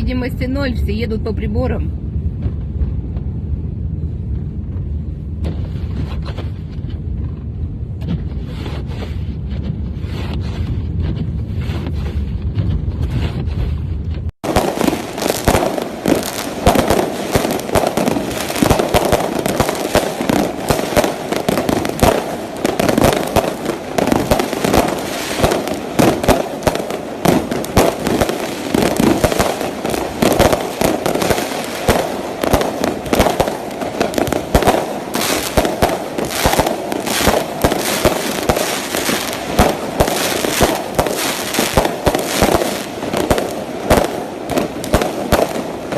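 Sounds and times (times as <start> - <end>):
low wind rumble: 0.0 - 45.9
fireworks crackling and popping: 2.0 - 45.9.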